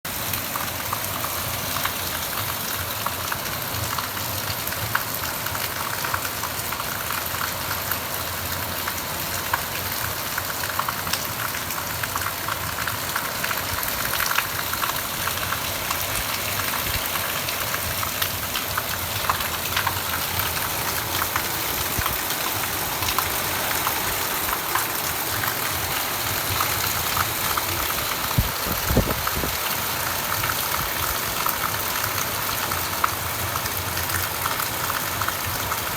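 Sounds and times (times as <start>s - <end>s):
heavy rain pouring: 0.1s - 35.9s
raindrops pattering on hard surfaces: 0.1s - 35.9s.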